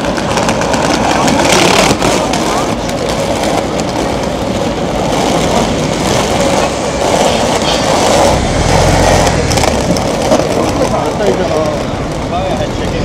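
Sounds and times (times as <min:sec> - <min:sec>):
deep engine hum: 0:00.0 - 0:13.0
passing vehicles rumbling: 0:00.0 - 0:13.0.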